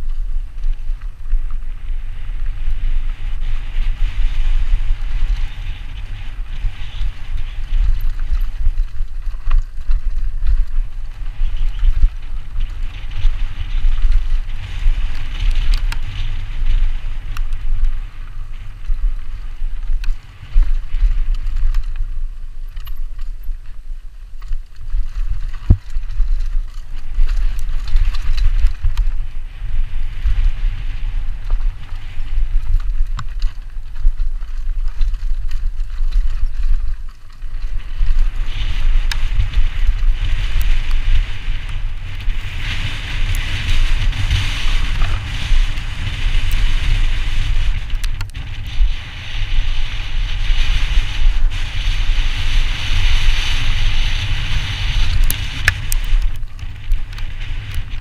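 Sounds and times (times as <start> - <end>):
bike rattling over bumps: 0.0 - 58.0
tyres rolling on dirt trail: 0.0 - 58.0
wind buffeting microphone: 0.0 - 58.0.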